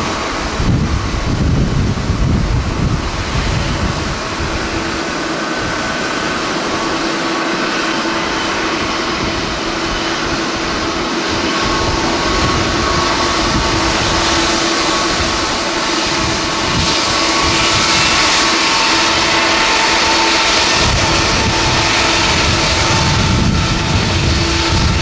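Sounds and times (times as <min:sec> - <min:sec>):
jet engines rushing: 0:00.0 - 0:25.0.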